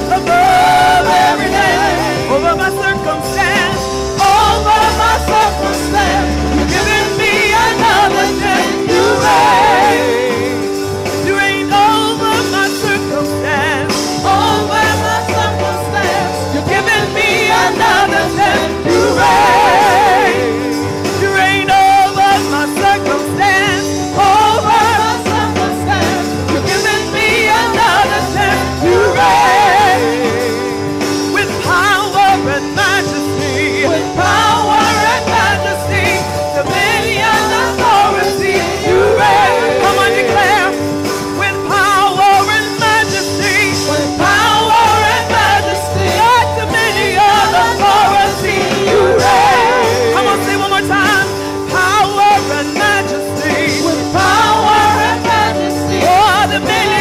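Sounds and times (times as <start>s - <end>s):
electric keyboard chords: 0.0s - 57.0s
woman singing with vibrato: 0.0s - 57.0s.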